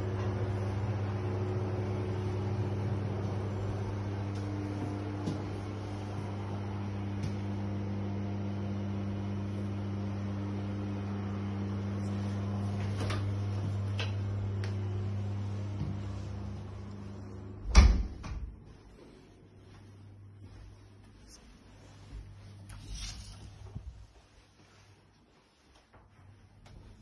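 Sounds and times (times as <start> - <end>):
extractor fan humming: 0.0 - 27.0.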